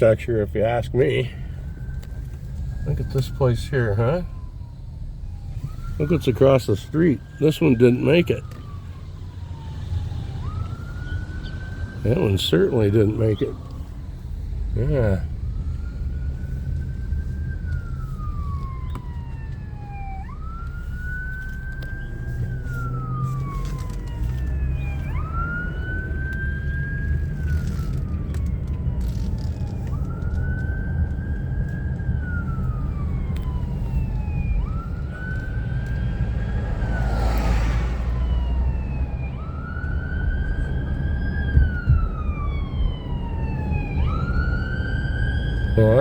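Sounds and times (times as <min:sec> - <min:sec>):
emergency siren wailing: 0:00.0 - 0:46.0.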